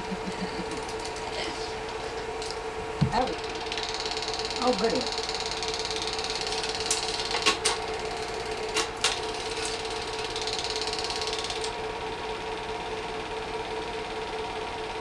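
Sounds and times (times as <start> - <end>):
film projector whirring: 0.0 - 15.0.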